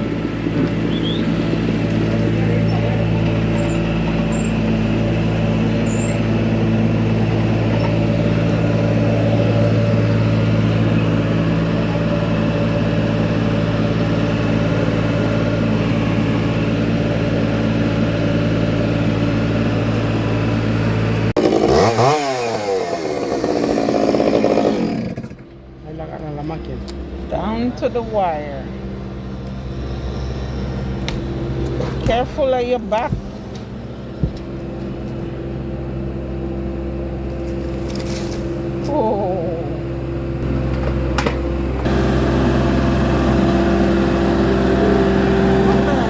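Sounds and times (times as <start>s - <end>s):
engine revving: 0.0s - 46.0s
motor running steadily: 0.0s - 46.0s.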